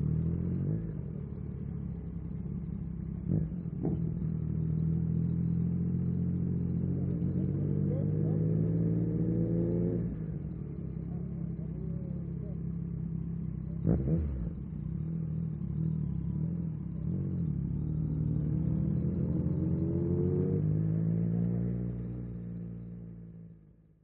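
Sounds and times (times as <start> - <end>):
motorcycle engine accelerating: 0.0 - 23.8.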